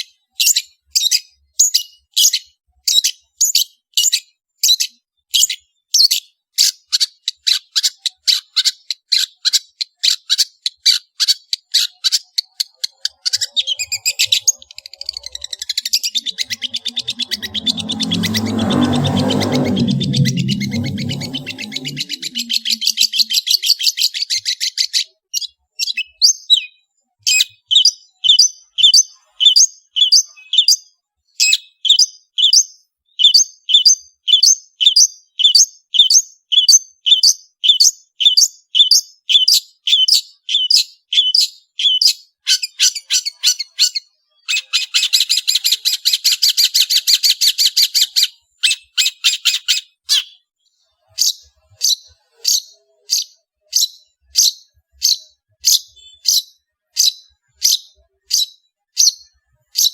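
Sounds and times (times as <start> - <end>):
bird high chirps: 0.0 - 30.8, 31.4 - 59.9.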